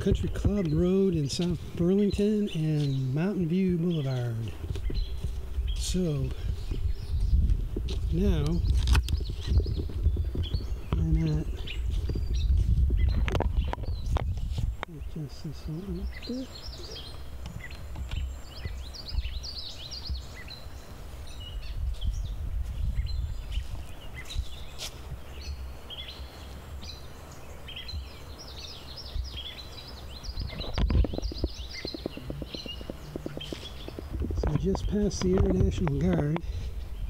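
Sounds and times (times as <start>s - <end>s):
songbirds chirping and singing: 0.0s - 37.0s
steady low rumble: 0.0s - 37.0s.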